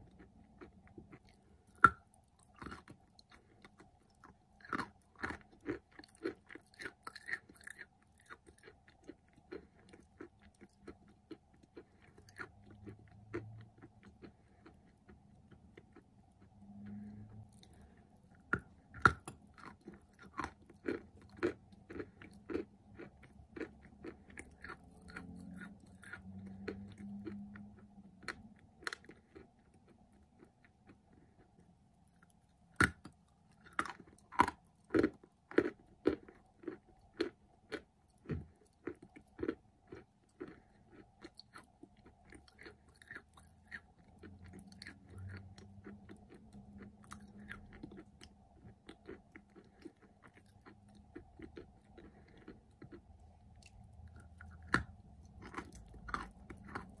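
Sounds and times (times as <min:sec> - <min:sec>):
dry clay crunching in mouth: 0:00.1 - 0:31.6, 0:32.7 - 0:57.0.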